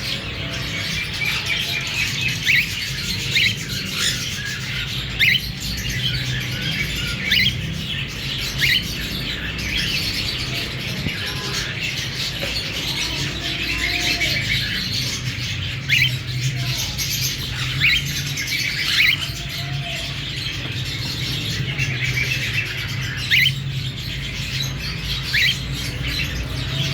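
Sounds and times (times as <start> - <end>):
chatter of many birds: 0.0 - 26.9
cockatiels chirping and calling: 0.0 - 26.9.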